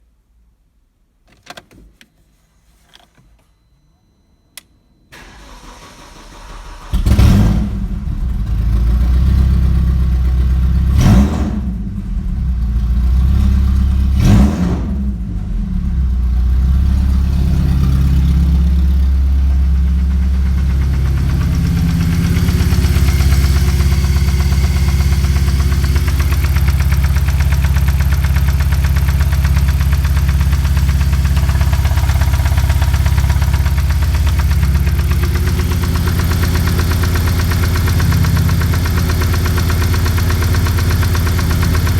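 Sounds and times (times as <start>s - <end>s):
car engine idling: 5.2s - 41.9s
car engine starting and revving: 5.2s - 41.9s.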